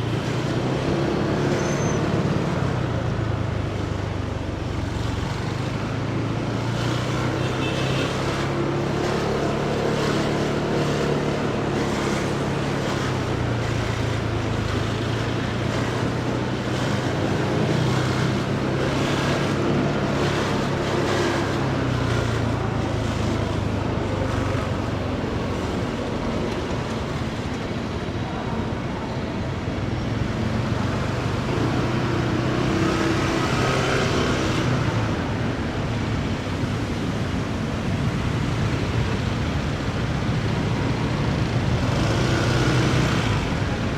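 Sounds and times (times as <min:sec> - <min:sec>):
road traffic: 0:00.0 - 0:43.9.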